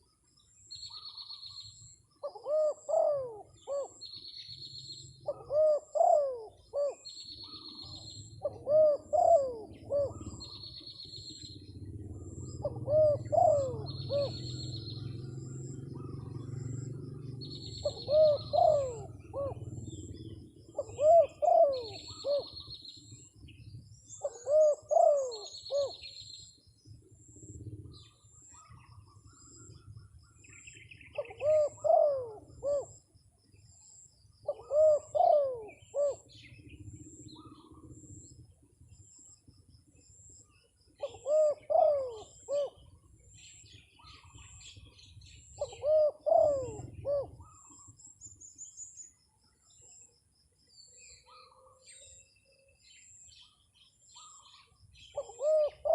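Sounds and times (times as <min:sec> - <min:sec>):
small birds chirping: 0:00.0 - 0:55.9
dove cooing: 0:00.8 - 0:39.4, 0:40.0 - 0:48.8, 0:51.0 - 0:55.9.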